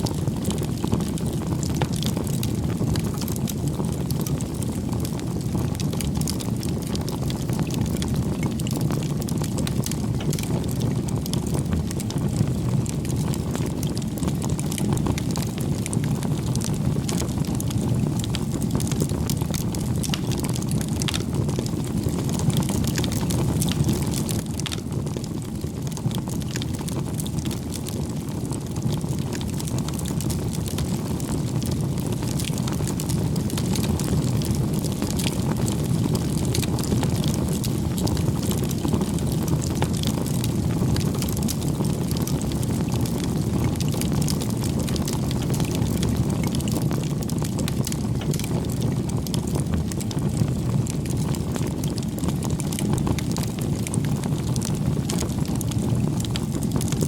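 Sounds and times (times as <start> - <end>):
bonfire flames rushing: 0.0 - 57.0
burning wood crackling and popping: 0.0 - 57.0.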